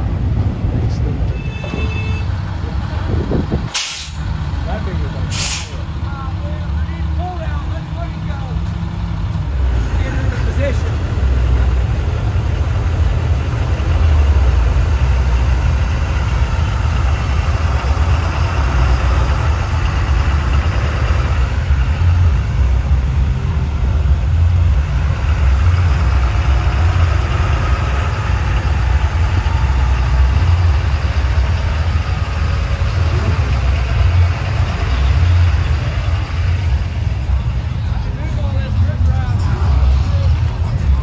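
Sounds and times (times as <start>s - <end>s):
diesel truck engine rumbling: 0.0s - 41.0s.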